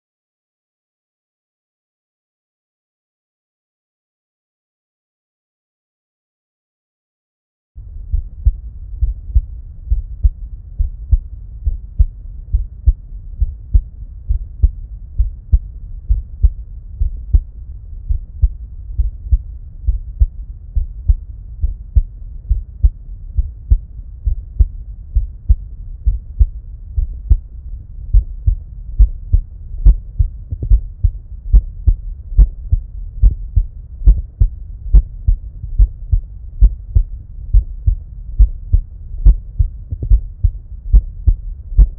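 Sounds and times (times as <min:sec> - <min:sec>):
low hum: 0:07.8 - 0:41.9
heartbeat thumps: 0:08.1 - 0:41.9.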